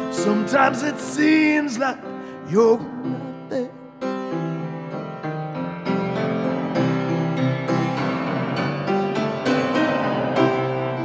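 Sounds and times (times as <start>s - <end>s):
blues piano: 0.0s - 11.0s.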